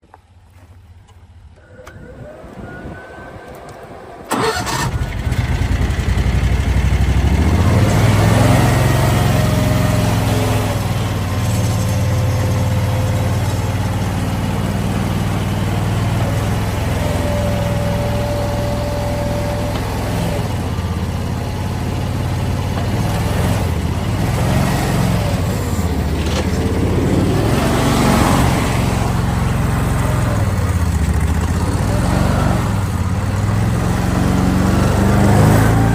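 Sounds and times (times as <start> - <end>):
small gas engine running: 1.6 - 35.9.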